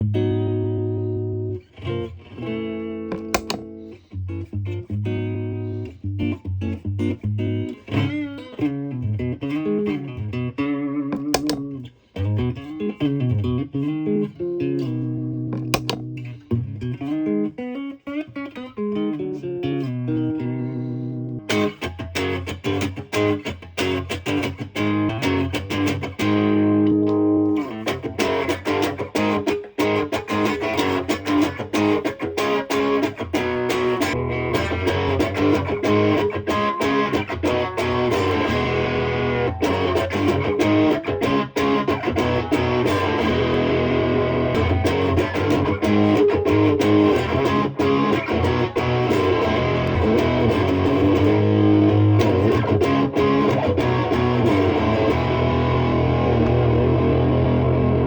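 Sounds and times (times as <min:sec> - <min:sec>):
distorted electric guitar: 0:00.0 - 0:58.0.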